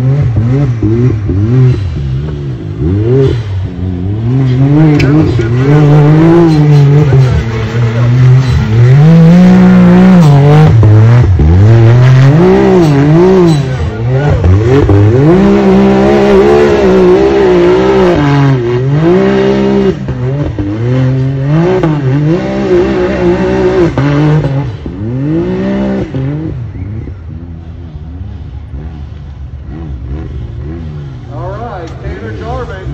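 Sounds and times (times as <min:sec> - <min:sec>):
race engine revving unevenly: 0:00.0 - 0:32.9.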